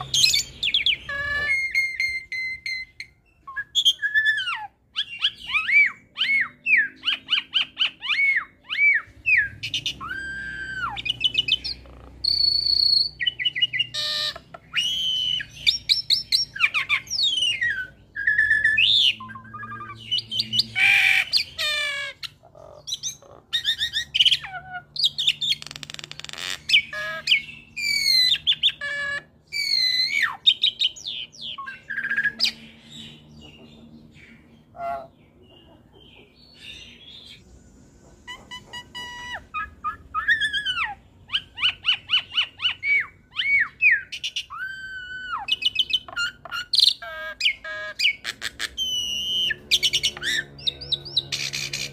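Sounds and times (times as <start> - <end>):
bird singing whistles and trills: 0.0 - 35.2, 38.3 - 51.9
harsh bird chattering calls: 0.0 - 37.5, 38.1 - 51.9.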